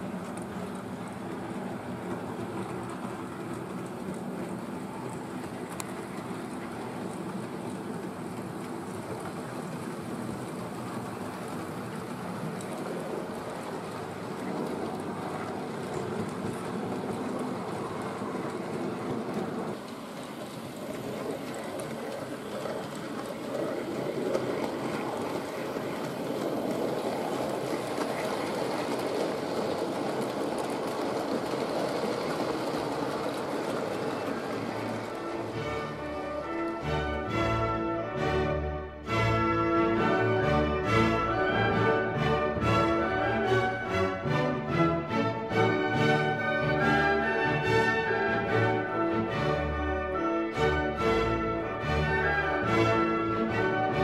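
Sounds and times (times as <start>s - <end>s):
model train rumbling on track: 0.0s - 54.0s.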